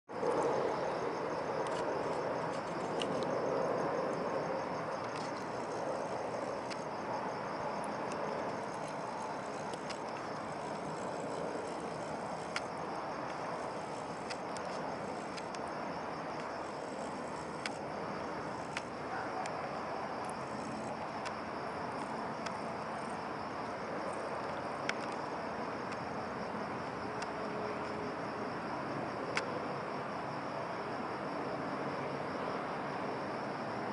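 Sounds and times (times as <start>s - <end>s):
crickets trilling: 0.1s - 33.9s.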